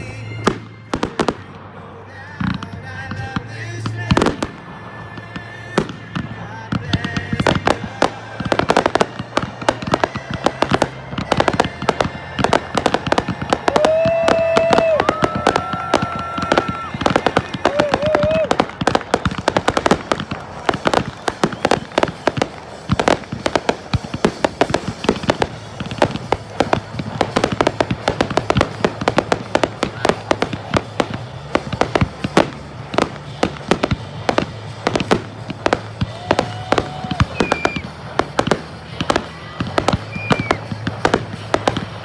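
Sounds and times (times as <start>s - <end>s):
fireworks bangs and cracks: 0.0s - 42.0s.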